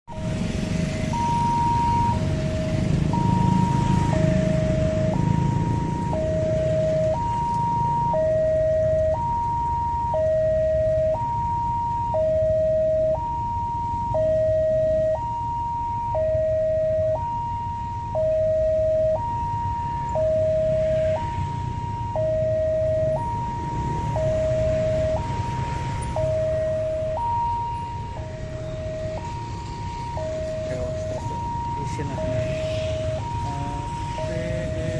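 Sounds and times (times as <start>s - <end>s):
level-crossing two-tone alarm: 0.1s - 34.9s.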